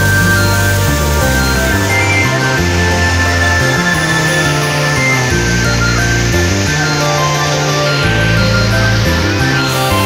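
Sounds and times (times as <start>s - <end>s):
instrumental music with bass line: 0.0s - 10.0s.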